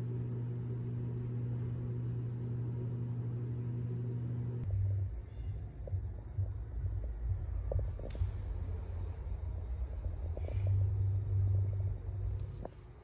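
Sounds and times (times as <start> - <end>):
low electrical hum: 0.0 - 13.0
uneven low rumbling: 0.5 - 13.0.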